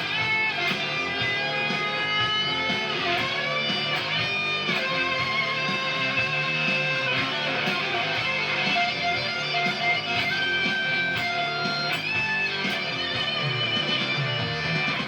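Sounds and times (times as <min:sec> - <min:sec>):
electric guitar chords: 0:00.0 - 0:15.0
fuzz electric guitar sustained notes: 0:00.0 - 0:15.0.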